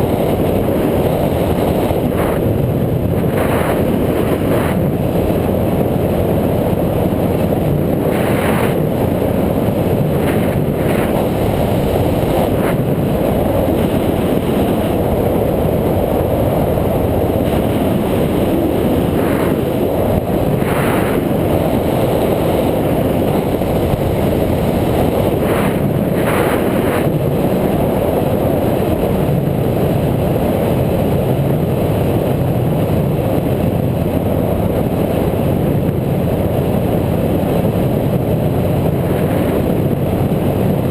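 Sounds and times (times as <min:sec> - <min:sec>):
wind and road riding noise: 0:00.0 - 0:40.9.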